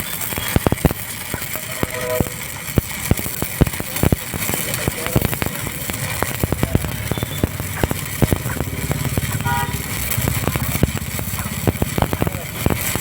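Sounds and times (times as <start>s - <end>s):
arc welding crackling: 0.0s - 13.0s
engine running: 0.6s - 13.0s.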